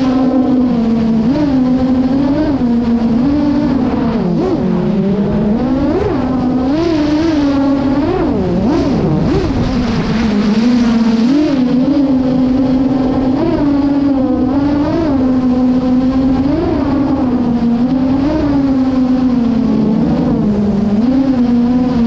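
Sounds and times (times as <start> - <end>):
drone motors buzzing: 0.0 - 22.0.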